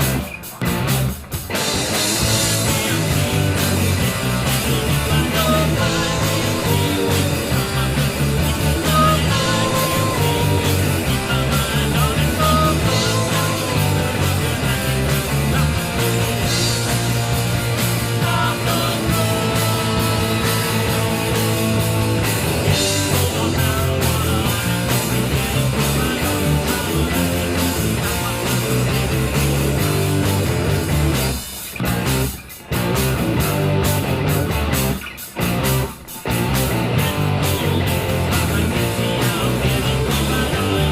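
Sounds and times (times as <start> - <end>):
bass guitar: 0.0 - 40.9
drum kit: 0.0 - 40.9
electric guitars: 0.0 - 40.9.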